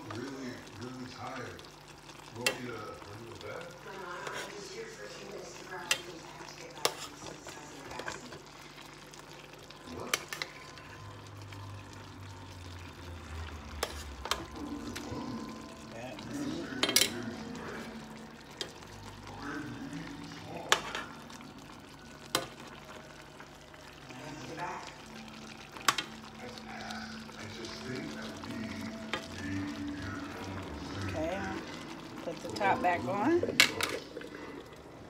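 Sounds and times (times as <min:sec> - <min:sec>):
chicken wings sizzling in sauce: 0:00.0 - 0:35.0.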